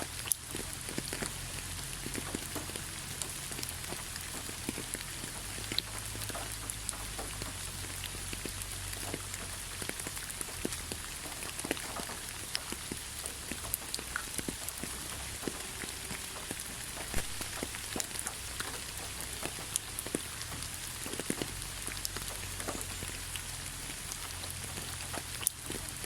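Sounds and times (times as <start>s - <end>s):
raindrops ticking on a surface: 0.0s - 26.0s
steady rain hissing: 0.0s - 26.0s.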